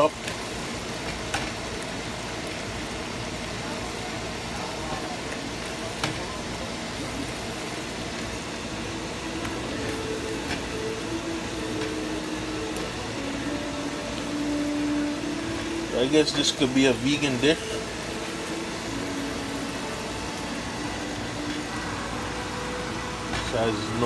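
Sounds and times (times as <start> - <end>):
curry sizzling in a pan: 0.0 - 24.0.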